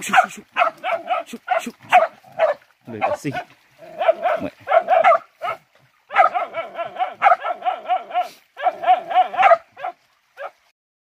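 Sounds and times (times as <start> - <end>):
dog yelping and barking: 0.0 - 10.6.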